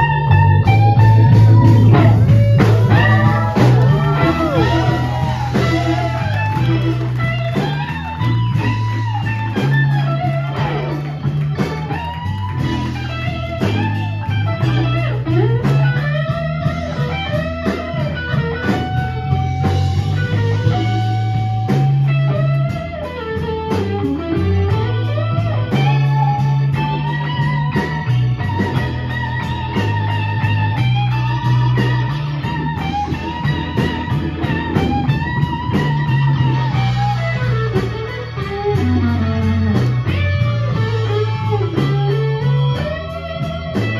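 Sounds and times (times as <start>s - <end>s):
drums: 0.0s - 43.9s
electric guitar solo: 0.0s - 43.9s
walking bass line: 0.0s - 43.9s.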